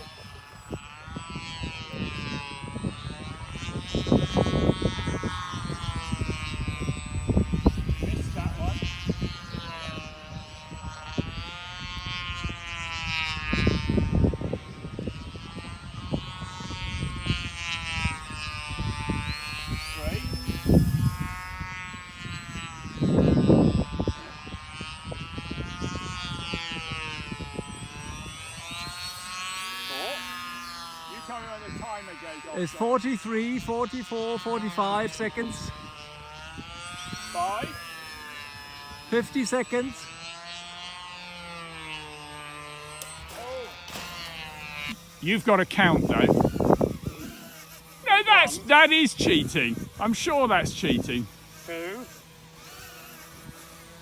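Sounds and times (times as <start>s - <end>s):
wind buffeting microphone: 0.0s - 32.9s, 35.0s - 39.3s, 43.1s - 51.7s
model aeroplane motor whining: 0.0s - 54.0s.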